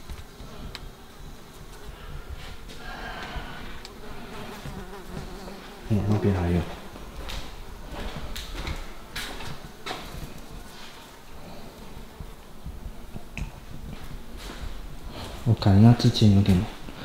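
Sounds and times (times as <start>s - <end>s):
flies and mosquitoes buzzing: 0.0s - 17.0s.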